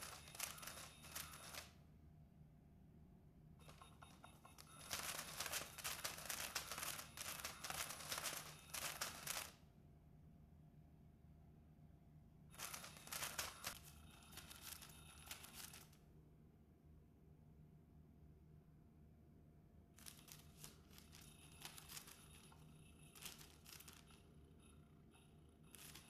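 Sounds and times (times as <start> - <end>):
faint motor whine: 0.0 - 26.0.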